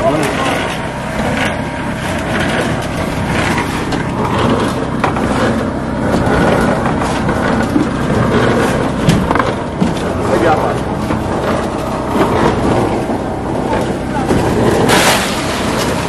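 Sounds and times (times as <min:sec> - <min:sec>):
concrete mixer engine running: 0:00.0 - 0:16.0
wheelbarrow rattling: 0:00.0 - 0:16.0.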